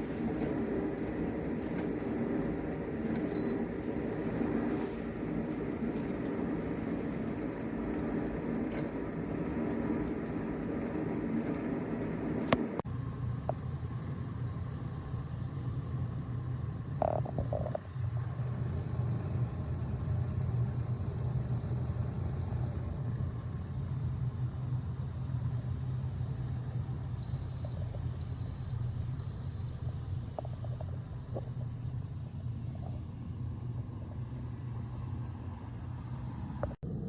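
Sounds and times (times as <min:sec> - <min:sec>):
kettle heating water rumble: 0:00.0 - 0:37.0.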